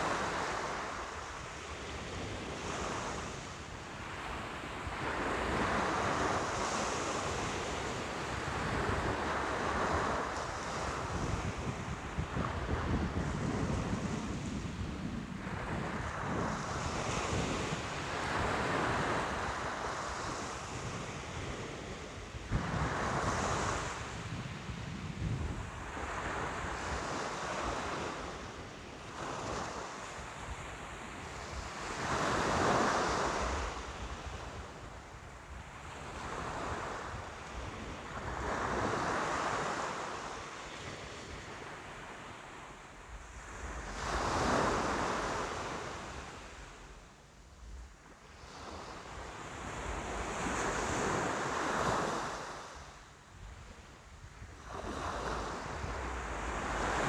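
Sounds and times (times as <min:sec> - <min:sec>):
ocean waves breaking on shore: 0:00.0 - 0:47.2, 0:48.0 - 0:53.2, 0:54.4 - 0:57.0.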